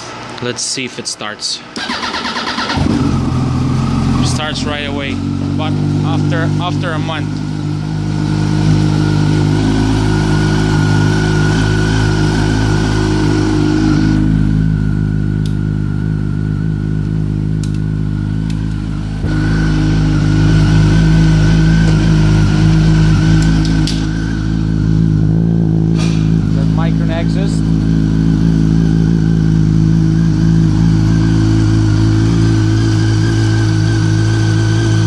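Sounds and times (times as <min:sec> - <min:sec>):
motorcycle engine idling: 0:02.1 - 0:13.0, 0:14.0 - 0:35.0.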